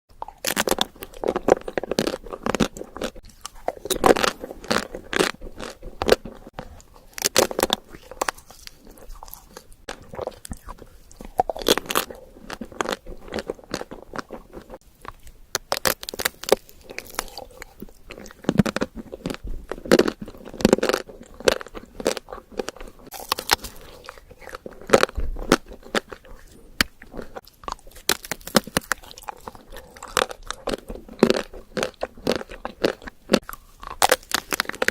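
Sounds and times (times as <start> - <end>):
person chewing crunchy food: 0.1 - 34.9.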